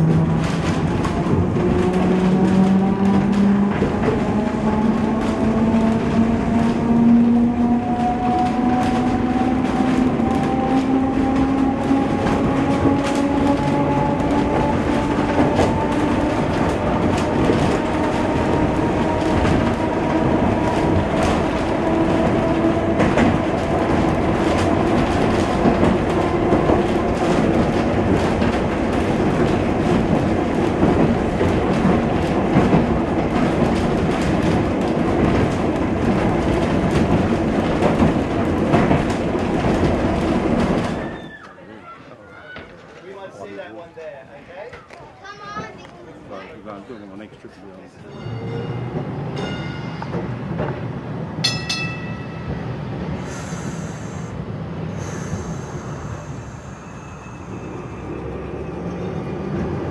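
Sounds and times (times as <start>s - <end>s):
tram motor whine: 0.0s - 41.1s, 48.1s - 59.9s
wheels clicking over rail joints: 0.0s - 46.6s, 47.6s - 54.3s
tram running rumble: 0.0s - 59.9s.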